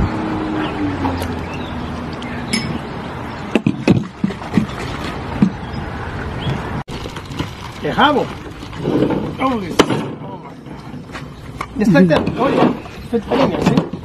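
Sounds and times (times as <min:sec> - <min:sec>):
distant traffic: 0:00.0 - 0:14.0.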